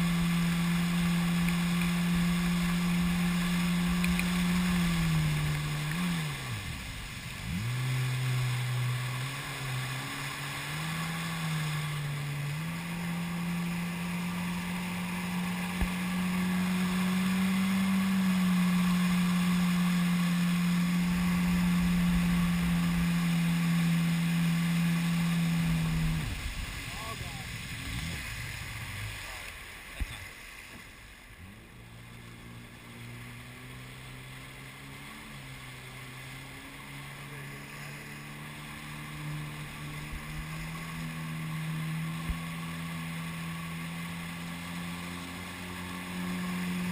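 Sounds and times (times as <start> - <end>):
jet ski engine droning: 0.0 - 46.9.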